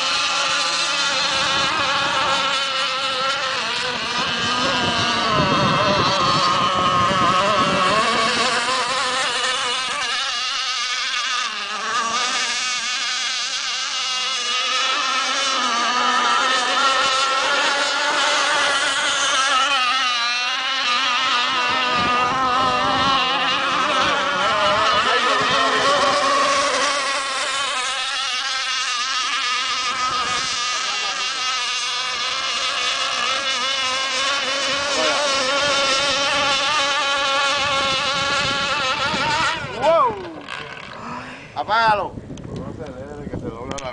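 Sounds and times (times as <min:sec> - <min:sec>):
model boat engines whining: 0:00.0 - 0:43.9.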